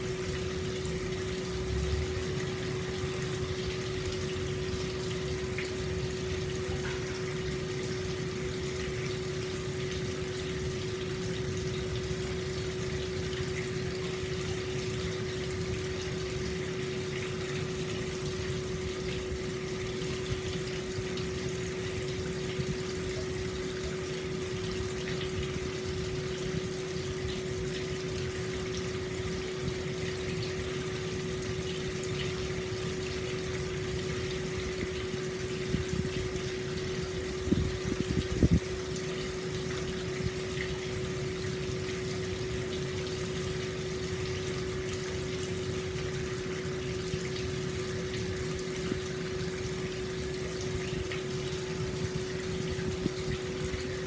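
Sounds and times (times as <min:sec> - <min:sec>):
steady hum: 0:00.0 - 0:54.0
water flowing into bath: 0:00.0 - 0:54.0.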